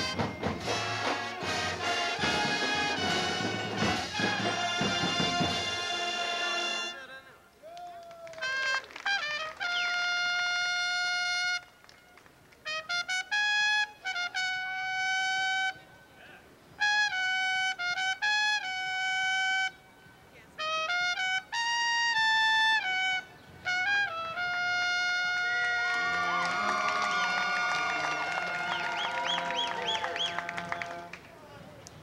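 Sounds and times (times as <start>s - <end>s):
solo trumpet melody: 0.0s - 7.2s, 8.4s - 16.2s, 16.8s - 31.2s.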